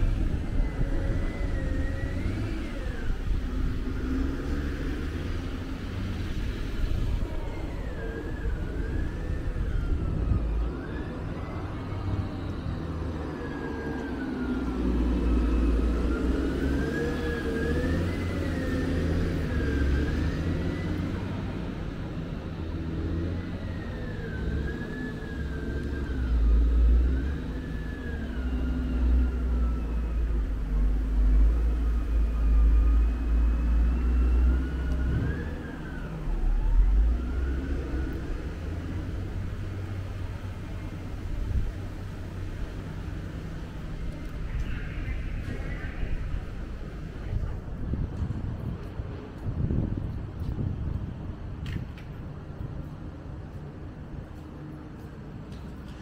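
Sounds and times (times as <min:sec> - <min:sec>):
distant siren wailing: 0:00.0 - 0:48.9
loud uneven low rumble: 0:00.0 - 0:56.0.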